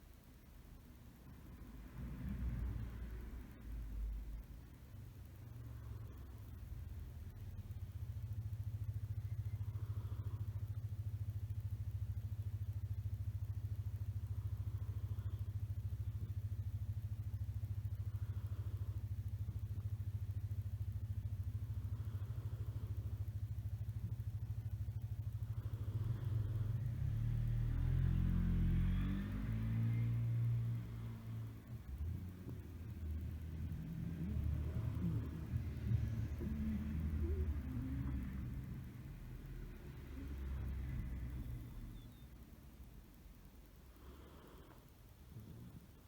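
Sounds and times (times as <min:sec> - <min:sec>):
cat breathing low rumble: 0:00.3 - 0:46.0.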